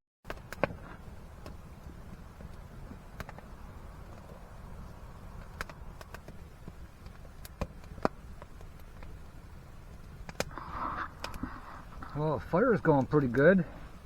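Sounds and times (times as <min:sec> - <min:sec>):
campfire crackling: 0:00.2 - 0:14.0.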